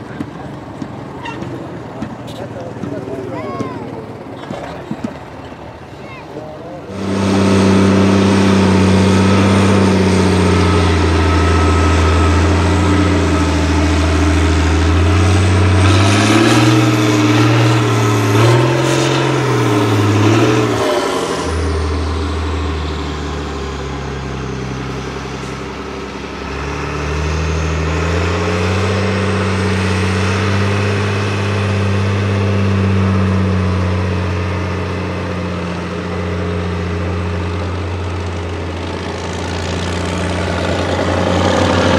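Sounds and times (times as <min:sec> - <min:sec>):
heavy truck engine revving: 0:00.0 - 0:41.9.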